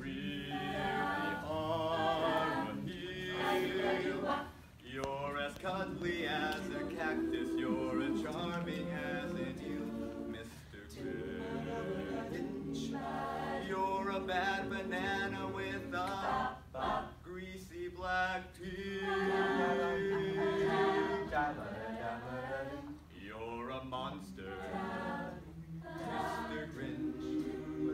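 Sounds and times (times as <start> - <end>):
vocal ensemble singing a cappella: 0.0 - 27.9.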